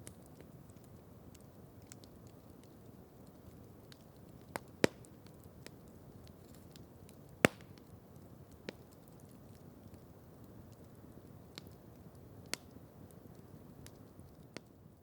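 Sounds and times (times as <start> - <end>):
campfire crackling: 0.0 - 15.0
low steady hiss: 0.0 - 15.0.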